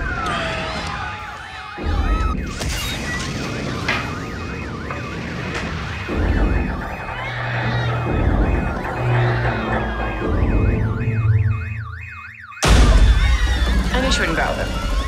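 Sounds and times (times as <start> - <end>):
electronic siren wailing: 0.0 - 15.0.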